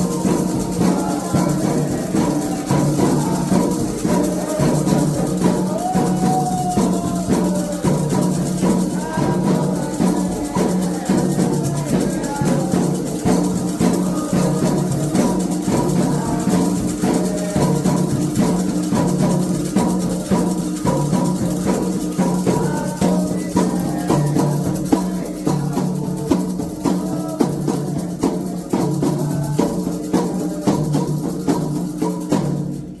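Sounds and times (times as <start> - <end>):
voices singing: 0.0 - 32.7
hand drums: 0.0 - 33.0
shaken rattles: 0.0 - 33.0.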